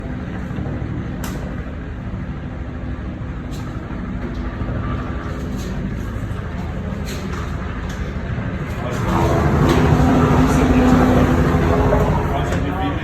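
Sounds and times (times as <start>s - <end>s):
helicopter engine and rotor rumble: 0.0s - 13.0s
low hum: 0.0s - 13.0s.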